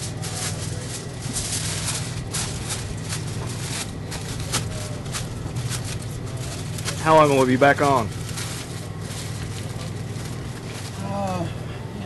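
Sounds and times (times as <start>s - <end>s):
aluminium foil crinkling: 0.0s - 11.5s
steady low hum: 0.0s - 12.0s.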